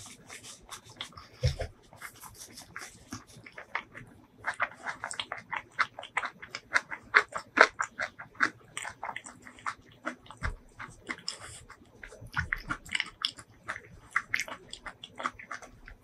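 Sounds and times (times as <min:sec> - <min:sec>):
chewing food with mouth clicks: 0:00.0 - 0:16.0.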